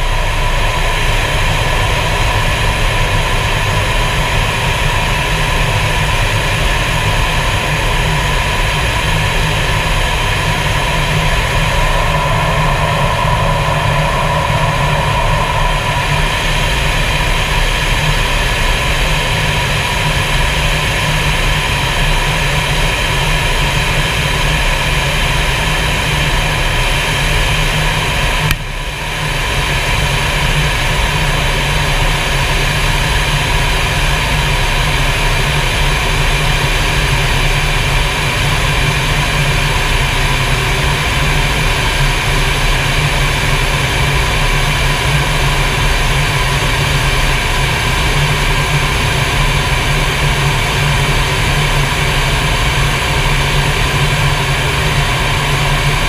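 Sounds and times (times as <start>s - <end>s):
jet engine roar in cockpit: 0.0s - 56.0s.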